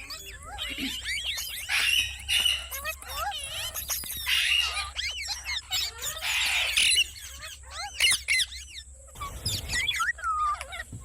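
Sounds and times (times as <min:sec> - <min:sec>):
parrot chirping and squawking: 0:00.0 - 0:11.0.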